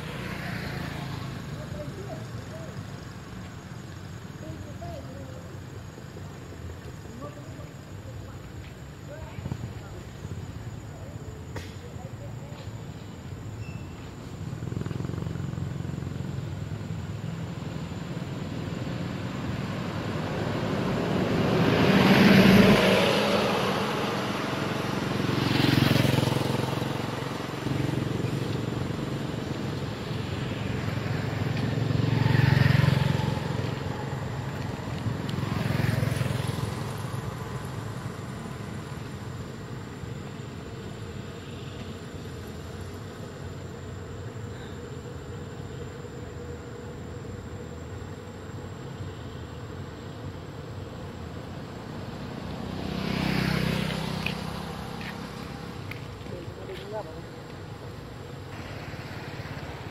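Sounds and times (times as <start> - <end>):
road vehicles passing: 0.0 - 59.9.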